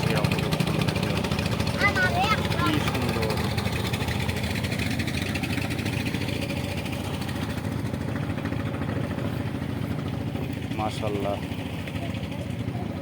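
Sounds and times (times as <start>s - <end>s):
engine idling with pulsing beat: 0.0s - 13.0s.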